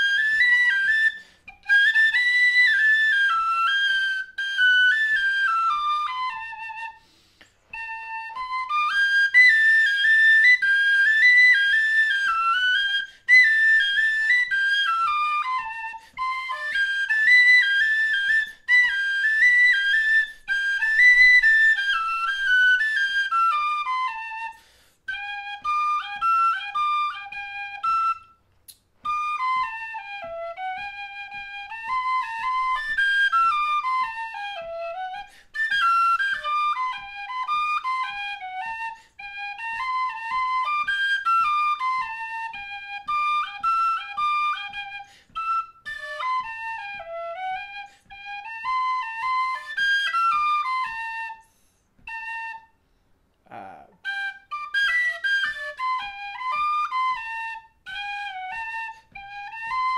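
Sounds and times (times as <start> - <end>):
tin whistle playing a folk tune: 0.0 - 53.0, 54.0 - 59.9.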